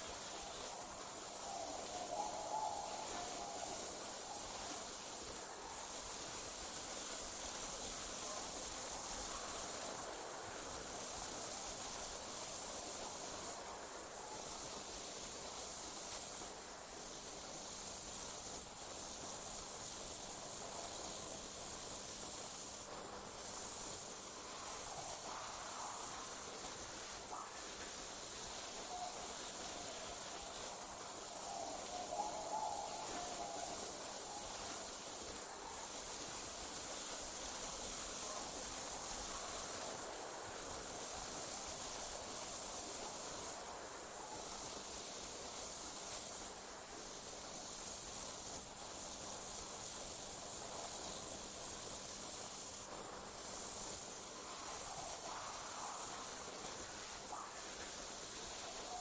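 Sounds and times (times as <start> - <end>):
crickets trilling: 0.0 - 13.6, 14.3 - 59.0.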